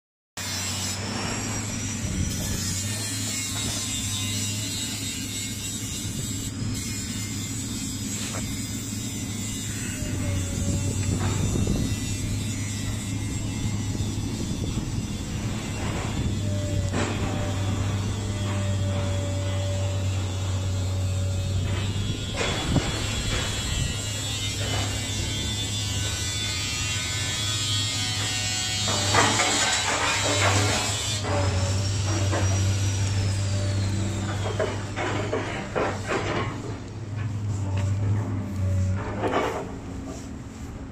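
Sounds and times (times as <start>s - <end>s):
hydraulic power unit humming: 0.4s - 40.9s.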